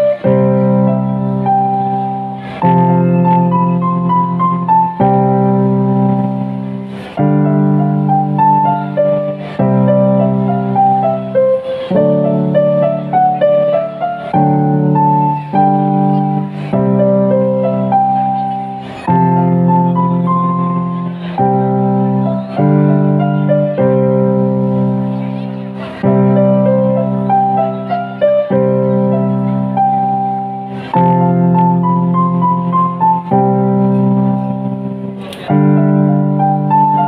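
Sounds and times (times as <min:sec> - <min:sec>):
electronic keyboard piano melody: 0:00.0 - 0:37.0.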